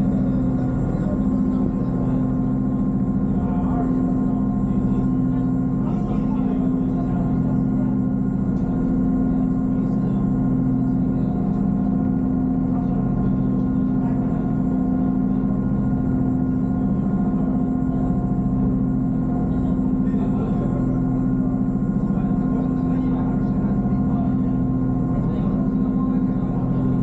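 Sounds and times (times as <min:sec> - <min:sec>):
mechanical drone with low rumble: 0:00.0 - 0:27.0.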